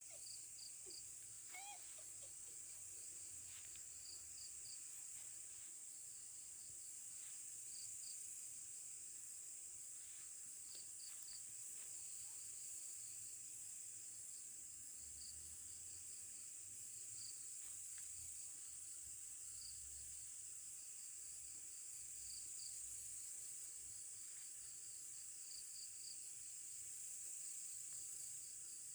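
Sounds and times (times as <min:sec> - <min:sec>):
cricket chirps: 0:00.0 - 0:28.9
crickets droning: 0:00.0 - 0:28.9.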